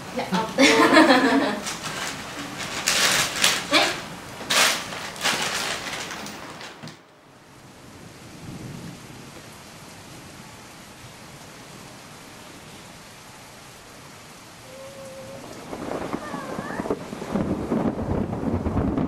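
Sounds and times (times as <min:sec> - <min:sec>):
steady hiss: 0:00.0 - 0:17.9.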